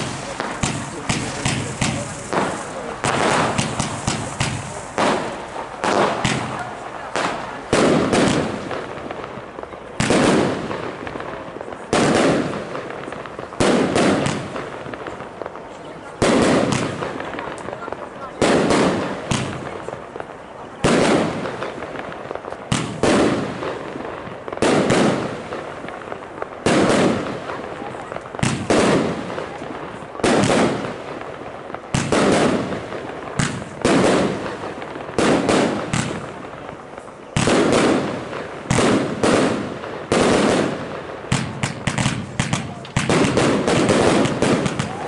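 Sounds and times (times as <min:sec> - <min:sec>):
firework bangs: 0:00.0 - 0:45.0
hissing firework tails: 0:00.0 - 0:45.0.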